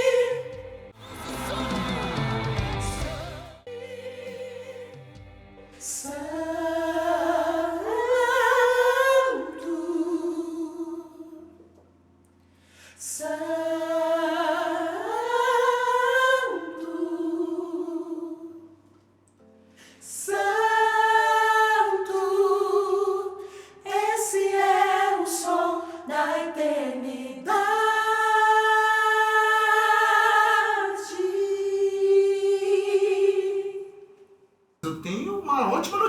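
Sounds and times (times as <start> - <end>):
women singing long held notes: 0.0 - 5.2, 5.8 - 11.6, 13.0 - 18.8, 20.0 - 34.2.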